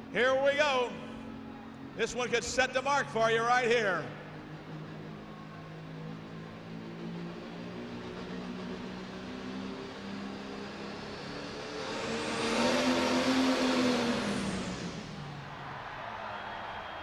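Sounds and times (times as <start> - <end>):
diesel pulling tractor running hard: 0.0 - 15.5.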